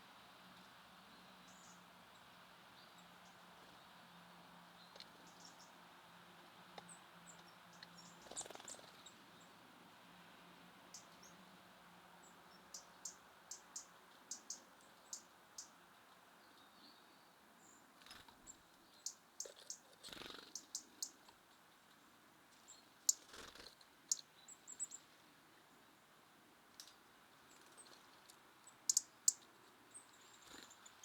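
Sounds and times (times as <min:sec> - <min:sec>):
songbirds chirping: 0:00.0 - 0:31.0.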